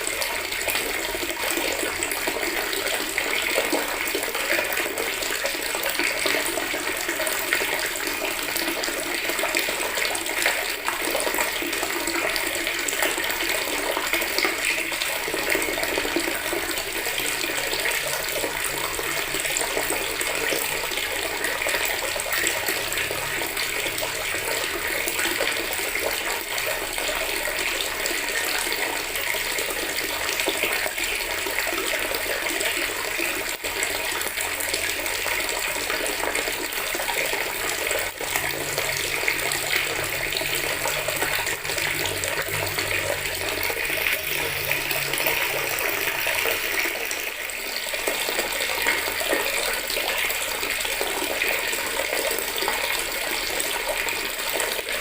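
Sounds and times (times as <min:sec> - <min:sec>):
tap water pouring into bucket: 0:00.0 - 0:55.0.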